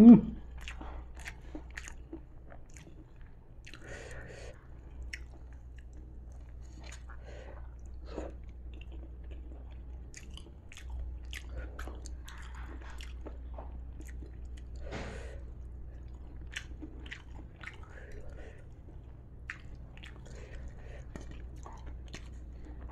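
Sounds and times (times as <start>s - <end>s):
low steady hum: 0.0s - 22.9s
crunchy chewing: 0.4s - 22.9s.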